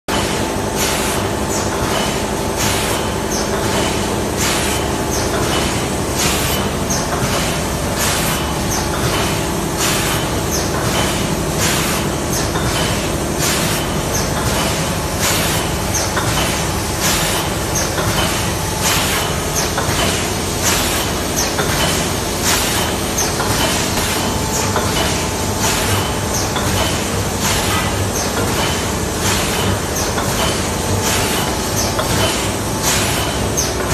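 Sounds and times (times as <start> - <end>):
packaging machine humming: 0.1 - 33.9.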